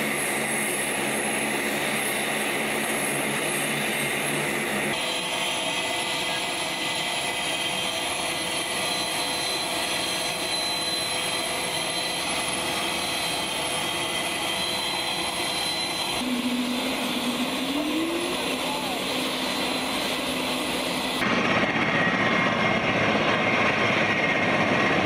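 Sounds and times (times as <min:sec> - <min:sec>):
turbine engine whine: 0:00.0 - 0:25.0.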